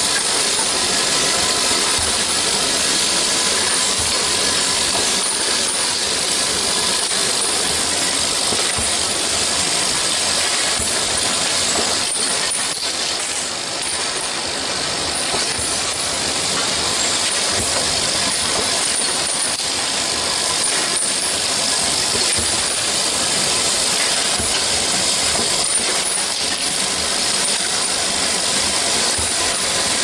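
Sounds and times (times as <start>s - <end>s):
machine hiss and hum: 0.0s - 30.0s.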